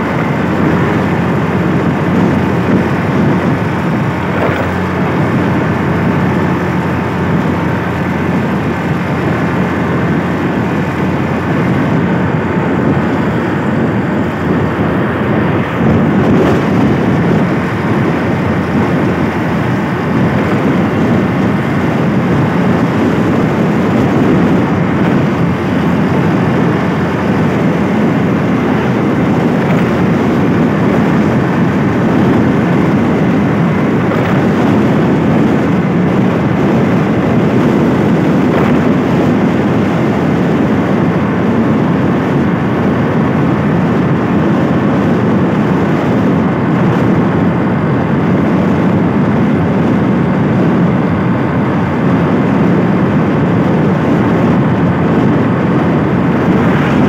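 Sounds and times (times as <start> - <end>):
motorbike engine at speed: 0.0 - 57.0
road noise: 0.0 - 57.0
wind on microphone: 0.0 - 57.0.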